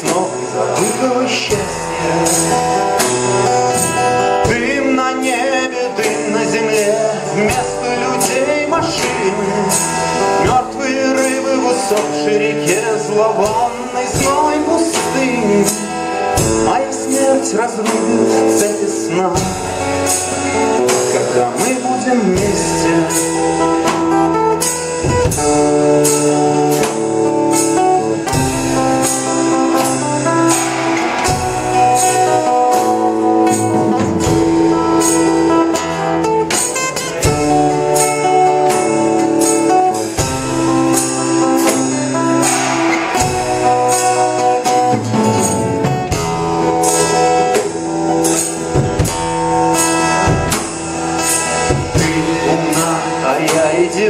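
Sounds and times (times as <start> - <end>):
live rock band playing: 0.0 - 54.0
steady drum beat: 0.0 - 54.0.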